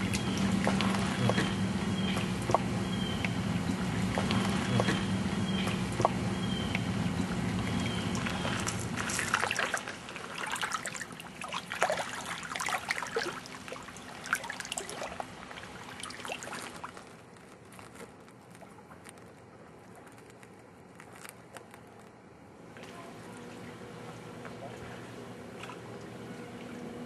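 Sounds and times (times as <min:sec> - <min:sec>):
low steady hum: 0:00.0 - 0:27.0
water lapping against rocks: 0:00.0 - 0:27.0.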